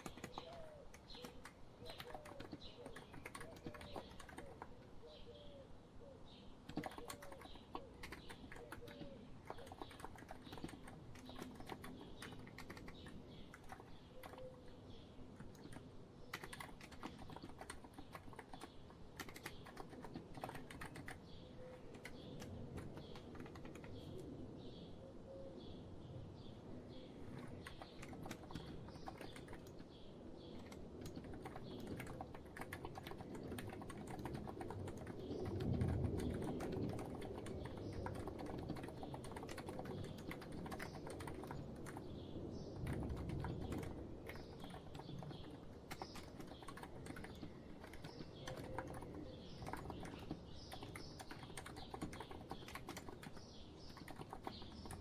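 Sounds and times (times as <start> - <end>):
soft keyboard typing: 0.0 - 5.2, 6.6 - 24.4, 27.0 - 55.0
faint bird chirps: 0.0 - 55.0.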